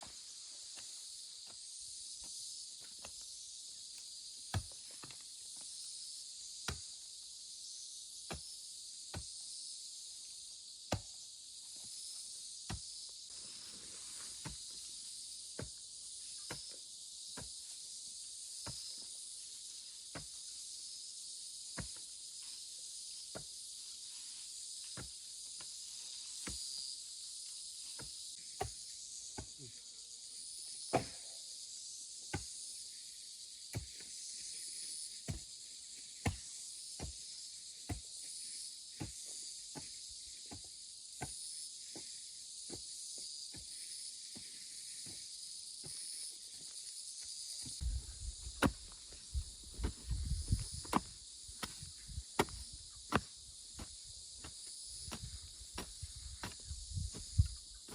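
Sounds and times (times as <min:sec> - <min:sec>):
insects chirping: 0:00.0 - 0:57.9.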